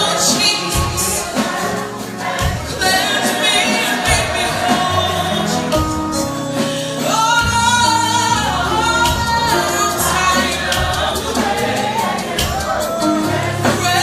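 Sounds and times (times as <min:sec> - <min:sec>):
band playing: 0:00.0 - 0:14.0
gospel choir singing: 0:00.0 - 0:14.0.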